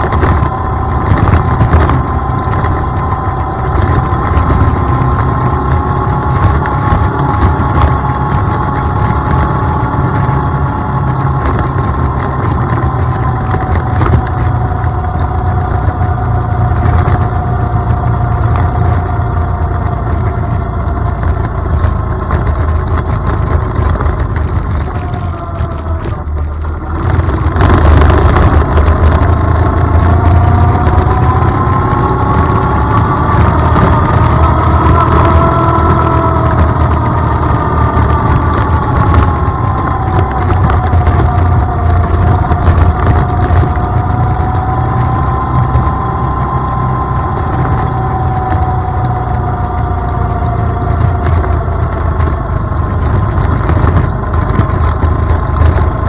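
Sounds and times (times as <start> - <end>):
atv engine running: 0.0 - 56.0
heavy low rumble: 0.0 - 56.0.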